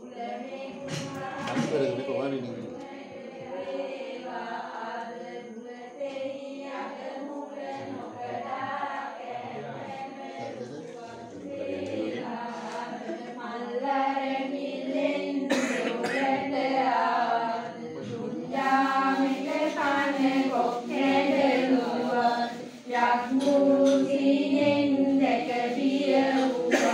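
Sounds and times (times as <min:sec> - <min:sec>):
group chanting in unison: 0:00.0 - 0:26.9.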